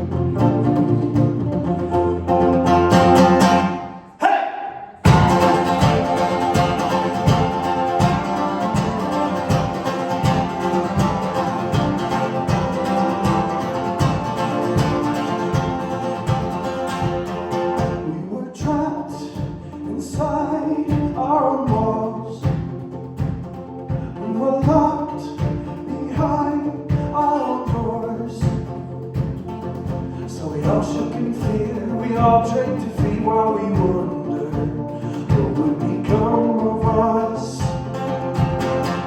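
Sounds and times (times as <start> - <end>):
band playing live: 0.0 - 4.0, 5.1 - 18.1, 18.7 - 39.0.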